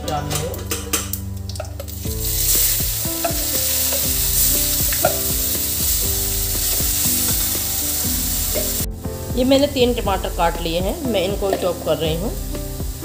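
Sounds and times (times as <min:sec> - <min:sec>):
paste sizzling in hot oil: 0:01.5 - 0:13.0.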